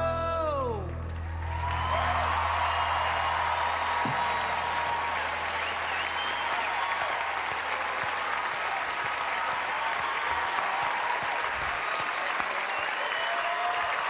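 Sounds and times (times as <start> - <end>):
audience applauding: 0.7 - 14.0
scattered cheers: 1.2 - 14.0.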